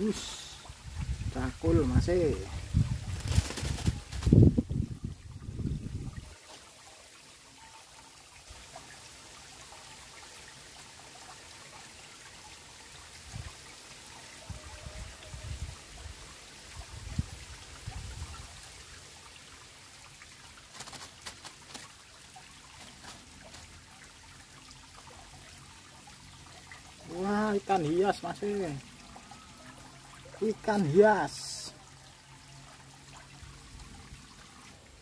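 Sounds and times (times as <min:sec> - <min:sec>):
water trickling and rushing: 0:00.0 - 0:35.0.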